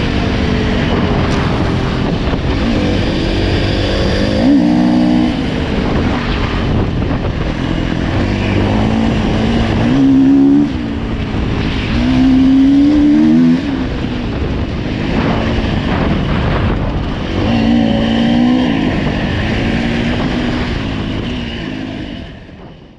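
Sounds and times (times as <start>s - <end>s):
dirt bike engine revving: 0.0s - 22.4s.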